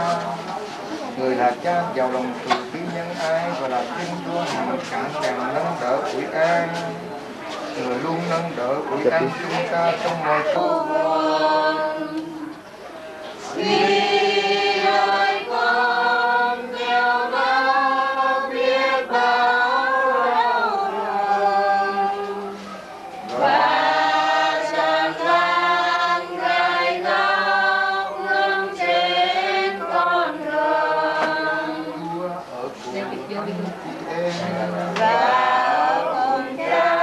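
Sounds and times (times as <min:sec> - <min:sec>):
group singing a hymn: 0:00.0 - 0:37.0.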